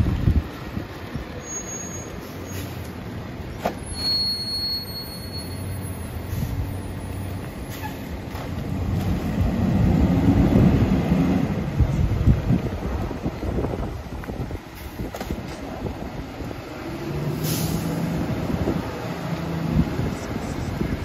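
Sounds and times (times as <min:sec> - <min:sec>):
garbage truck diesel engine: 0:00.0 - 0:21.0.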